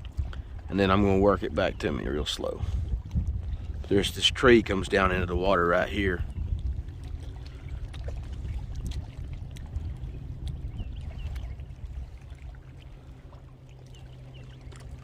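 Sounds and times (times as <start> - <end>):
light clicks and splashes: 0.0 - 15.0
water lapping against kayak hull: 0.0 - 15.0
wind rumble on microphone: 0.0 - 15.0.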